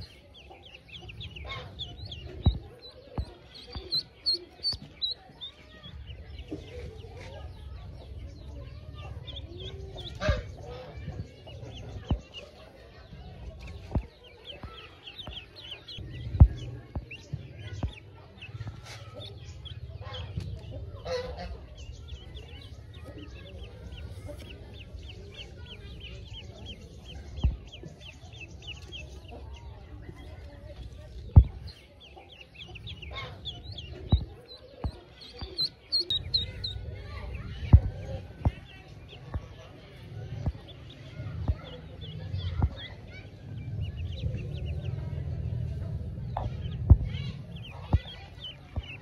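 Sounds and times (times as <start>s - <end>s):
ducklings peeping: 0.0s - 49.0s
low handling rumble: 0.0s - 49.0s.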